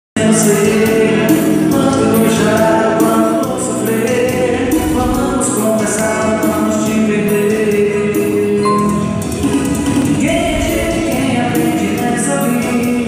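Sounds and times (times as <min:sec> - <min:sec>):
keyboard music with steady beat: 0:00.2 - 0:13.0
man singing into microphone: 0:00.2 - 0:13.0.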